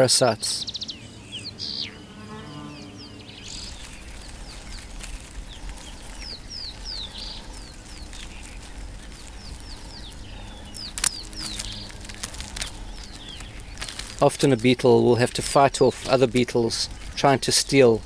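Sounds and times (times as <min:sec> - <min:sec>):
bird chirping: 0:00.0 - 0:18.0
low background rumble: 0:00.6 - 0:18.0.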